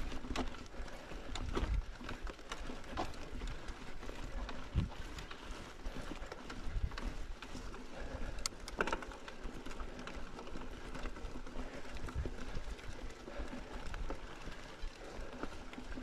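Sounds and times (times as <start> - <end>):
bike rattles and clicks: 0.0 - 16.0
bike rolling over rough ground: 0.0 - 16.0.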